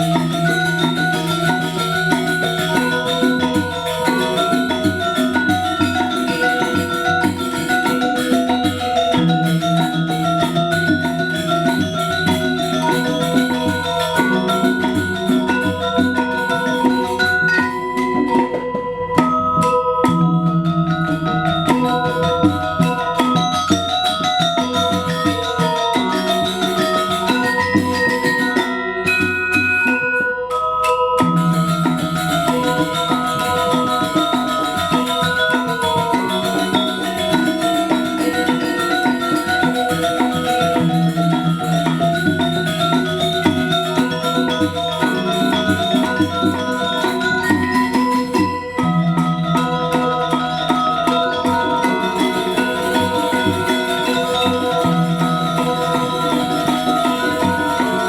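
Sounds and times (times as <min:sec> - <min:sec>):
gamelan metallophones ringing: 0:00.0 - 0:58.0.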